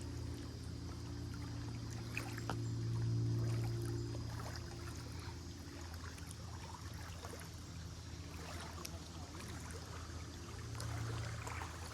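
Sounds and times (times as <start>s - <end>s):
steady low hum: 0.0s - 11.9s
water trickling and splashing: 0.0s - 11.9s.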